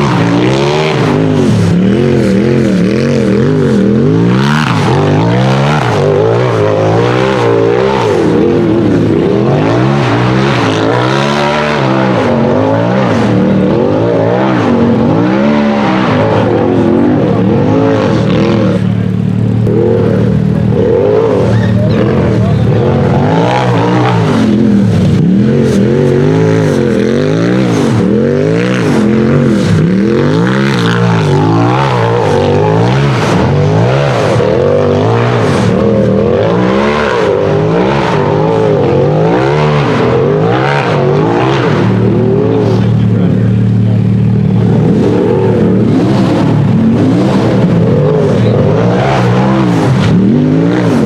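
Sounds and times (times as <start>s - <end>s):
buggy engine revving hard: 0.0s - 51.0s.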